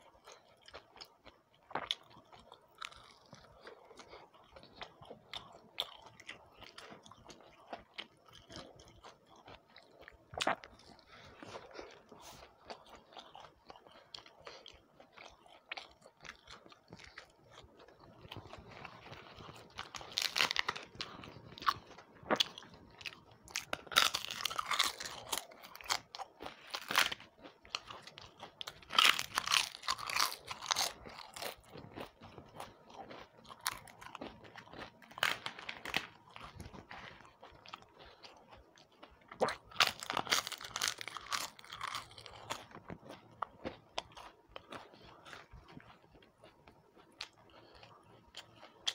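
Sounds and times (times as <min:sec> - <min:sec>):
crisp crunching of fried snacks: 0:00.0 - 0:48.9.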